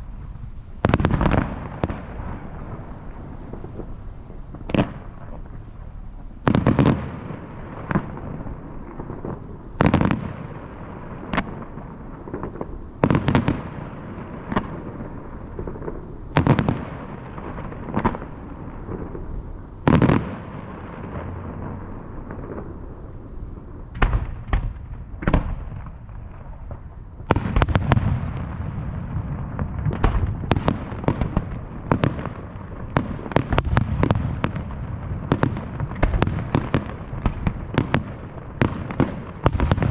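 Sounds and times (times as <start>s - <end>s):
continuous rumble: 0.0s - 39.9s
fireworks bursting with booms: 0.0s - 39.9s.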